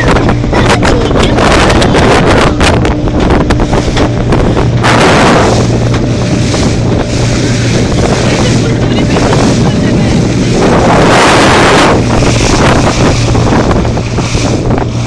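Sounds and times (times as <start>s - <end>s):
boat engine hum: 0.0s - 15.0s
rushing water: 0.0s - 15.0s
wind buffeting microphone: 0.0s - 15.0s.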